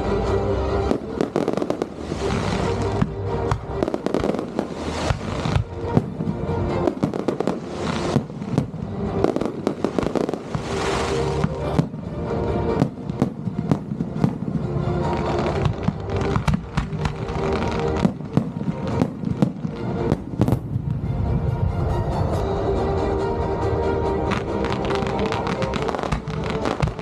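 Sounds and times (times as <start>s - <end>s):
music playing: 0.0s - 27.0s
fireworks banging and crackling: 0.8s - 21.4s, 24.3s - 27.0s.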